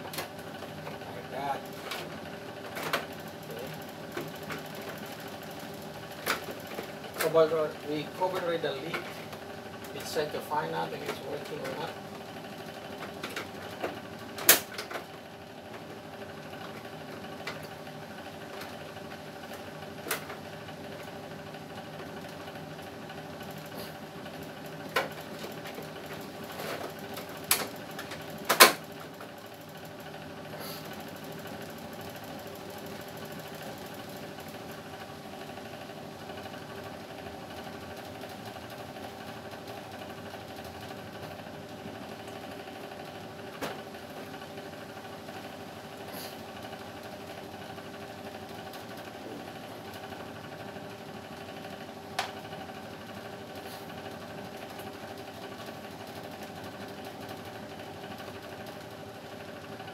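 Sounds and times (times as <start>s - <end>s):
air conditioner humming: 0.0s - 59.9s.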